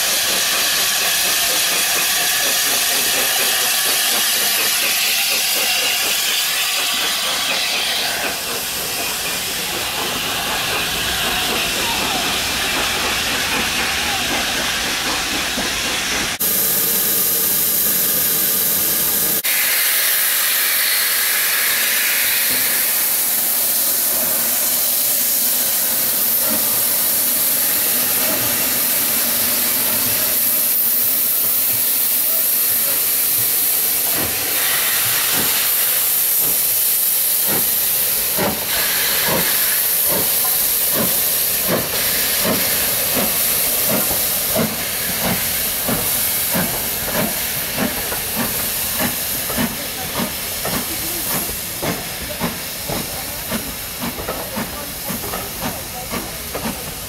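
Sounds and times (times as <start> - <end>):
steam locomotive hissing steam: 0.0 - 57.0.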